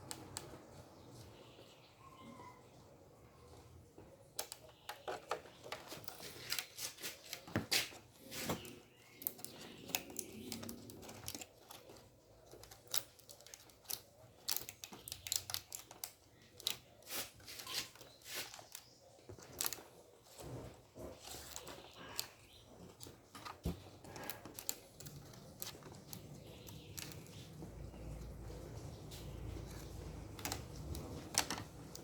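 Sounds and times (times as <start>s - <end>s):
hands clicking and tapping wire: 0.0s - 1.4s, 4.0s - 32.0s.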